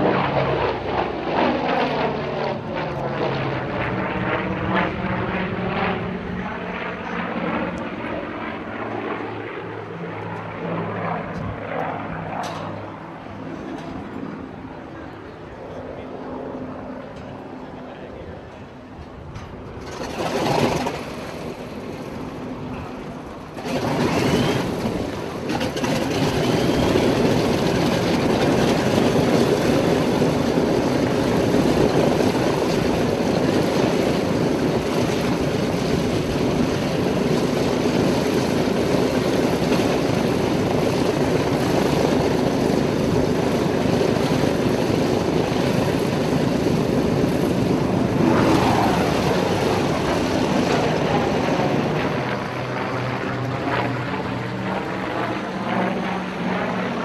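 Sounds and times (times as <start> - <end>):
aircraft radial engines droning: 0.0 - 57.0.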